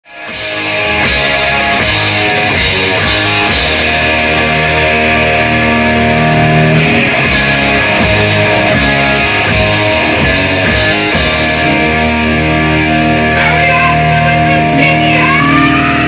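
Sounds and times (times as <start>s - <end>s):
electric guitars: 0.0s - 16.0s
rock band playing live: 0.0s - 16.0s.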